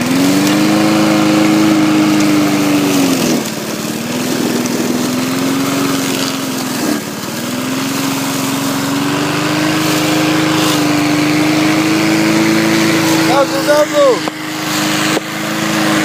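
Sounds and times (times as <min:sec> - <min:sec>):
lawn mower engine bogging: 0:00.0 - 0:16.0.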